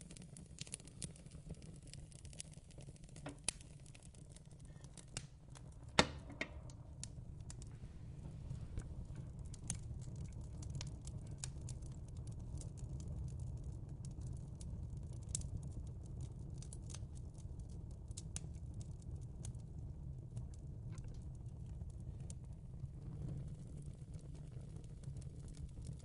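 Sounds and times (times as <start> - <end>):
fireplace crackling: 0.0 - 26.0
low steady rumble: 2.6 - 26.0.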